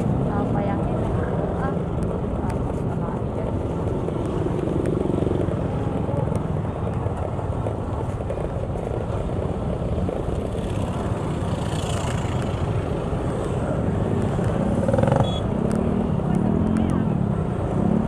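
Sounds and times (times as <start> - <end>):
wind buffeting microphone: 0.0 - 17.9
vehicle engine and road rumble: 0.0 - 18.0.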